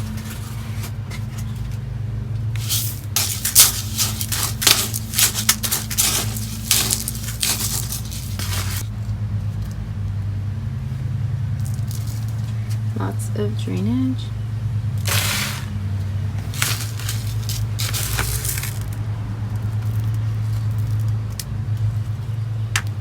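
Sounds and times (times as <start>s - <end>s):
soil scraping and rustling: 0.0s - 9.8s, 11.6s - 13.0s, 14.9s - 22.5s
steady low hum: 0.0s - 23.0s.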